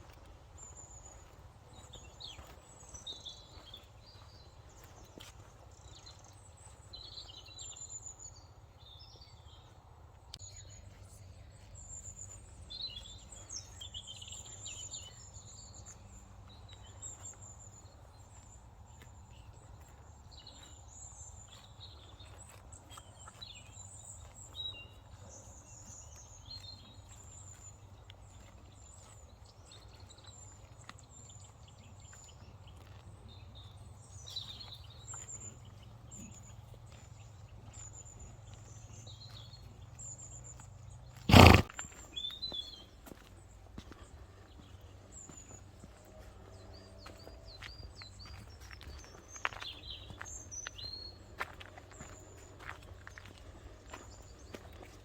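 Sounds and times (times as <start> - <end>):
small birds chirping: 0.0 - 45.8, 46.7 - 55.0.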